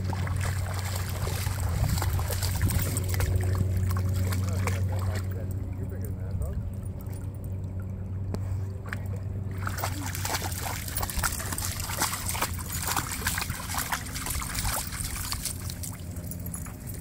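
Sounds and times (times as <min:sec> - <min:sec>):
dog splashing through water: 0:00.0 - 0:05.8, 0:08.8 - 0:17.0.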